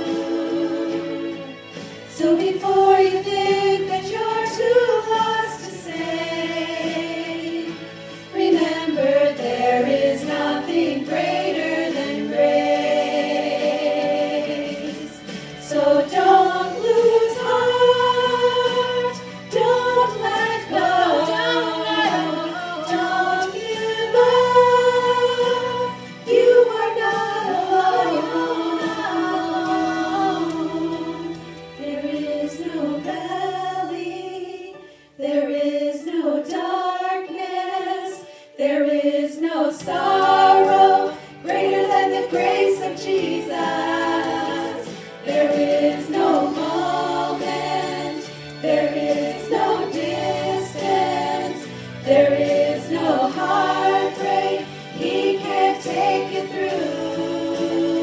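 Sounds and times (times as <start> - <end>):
women singing gospel in harmony: 0.0 - 58.0.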